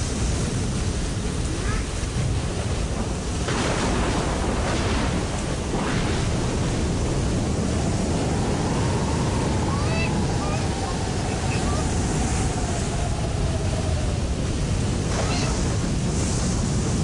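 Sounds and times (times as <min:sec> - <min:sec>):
sea surf rushing: 0:00.0 - 0:17.0.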